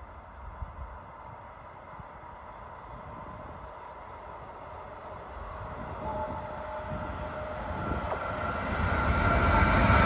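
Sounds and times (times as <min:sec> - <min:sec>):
freight train rumble: 0:00.0 - 0:10.0.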